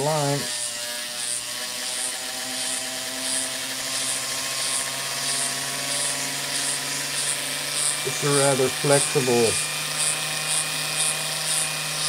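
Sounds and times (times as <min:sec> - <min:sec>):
rotary grinder motor hum: 0:00.0 - 0:12.0.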